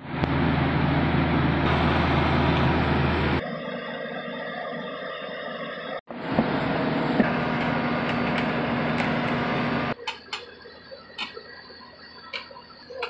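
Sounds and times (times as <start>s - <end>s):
drilling rig humming: 0.0s - 5.5s, 6.1s - 13.0s.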